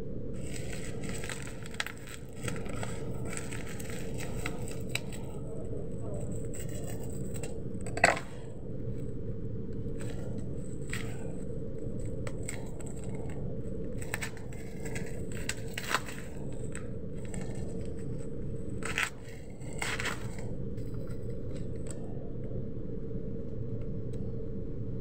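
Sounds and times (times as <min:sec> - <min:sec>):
steady low hum: 0:00.0 - 0:25.0
plastic wrapping crinkling: 0:00.4 - 0:09.1, 0:09.8 - 0:22.0.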